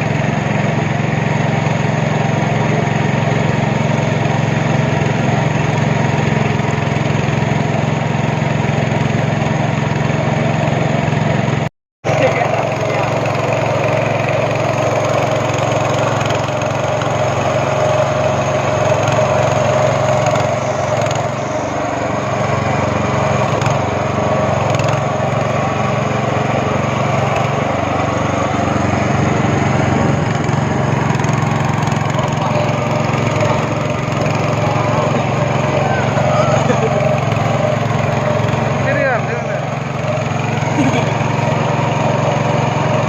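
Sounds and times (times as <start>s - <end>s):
speedboat engine running: 0.0s - 43.0s.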